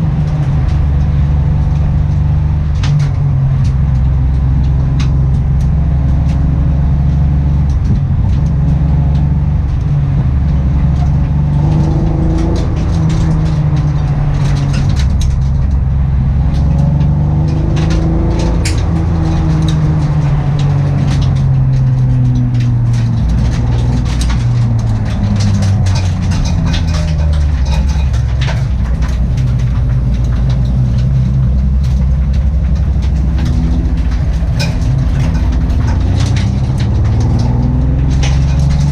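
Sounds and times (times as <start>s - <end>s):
engine running with misfire: 0.0s - 38.9s
irregular clicks: 0.0s - 38.9s.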